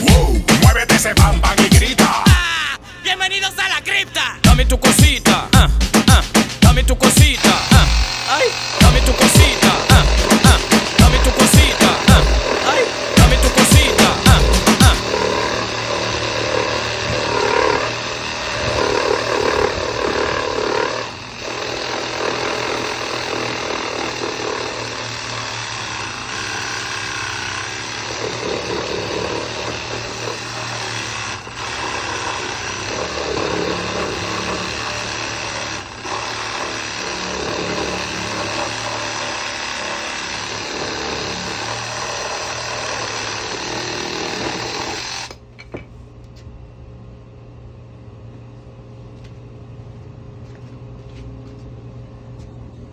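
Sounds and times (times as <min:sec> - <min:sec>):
reciprocating saw running: 0:00.0 - 0:02.4, 0:04.5 - 0:45.4.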